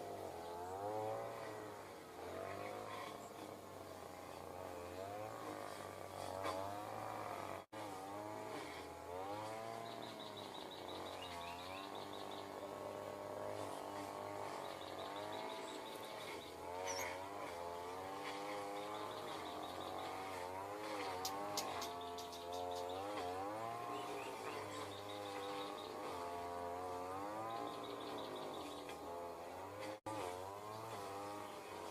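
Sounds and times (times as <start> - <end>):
engine revving: 0.0 - 31.9.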